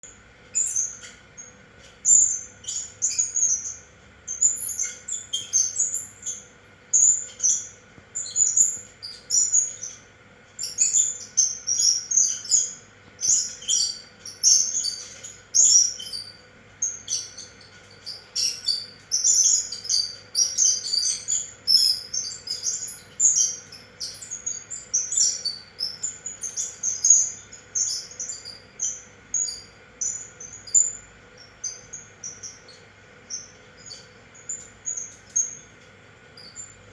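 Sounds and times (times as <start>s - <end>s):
ceiling fan hum: 0.0s - 36.9s
high bird-like chirps: 0.0s - 36.9s.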